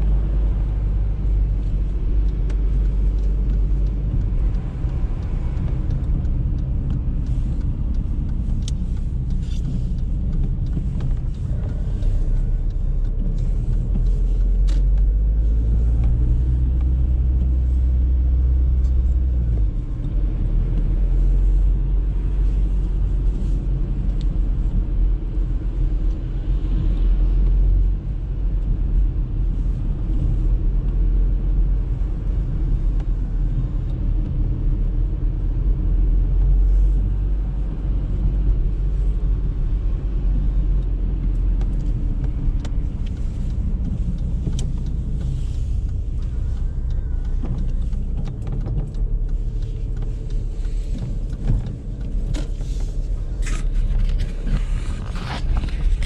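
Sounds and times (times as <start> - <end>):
engine and tyre rumble: 0.0 - 56.0
light ticks: 0.0 - 56.0.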